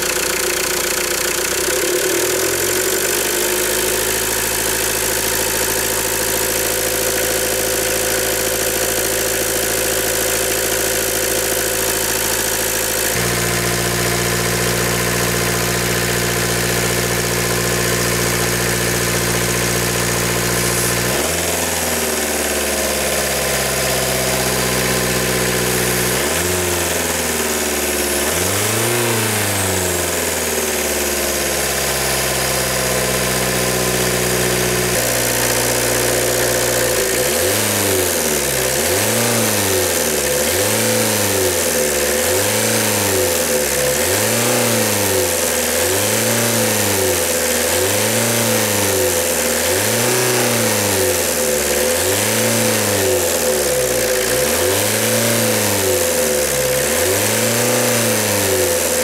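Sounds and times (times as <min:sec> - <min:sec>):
diesel engine idling and revving: 0:00.0 - 0:59.0.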